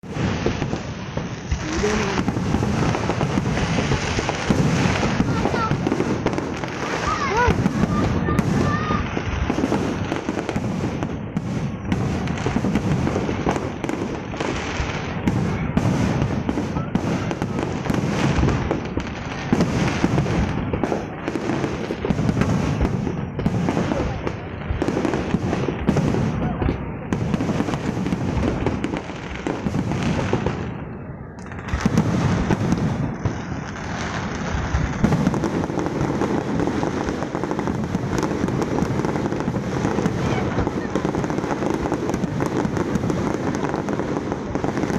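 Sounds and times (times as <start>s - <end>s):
fireworks crackling and popping: 0.0s - 44.9s
low rumble of firework bursts: 0.0s - 44.9s.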